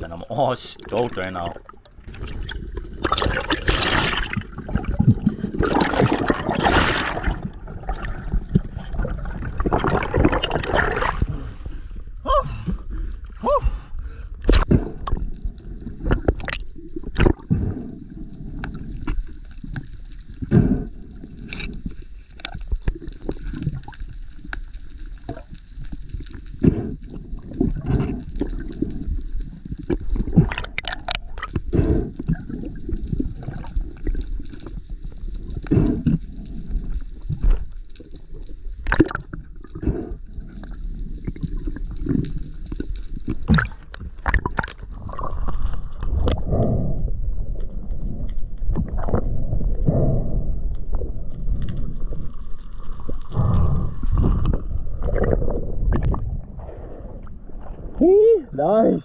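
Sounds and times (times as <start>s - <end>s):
water gurgling: 0.0s - 11.7s, 14.4s - 59.0s
muffled underwater rumble: 0.0s - 58.6s.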